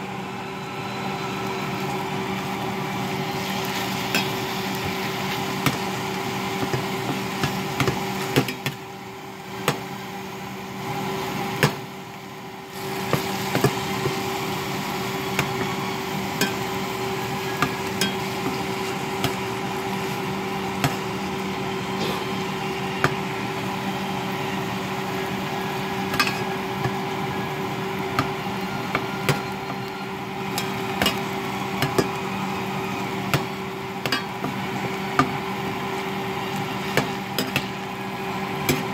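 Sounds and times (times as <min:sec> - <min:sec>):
steady hum: 0:00.0 - 0:38.9
meat and onions sizzling: 0:01.1 - 0:38.9.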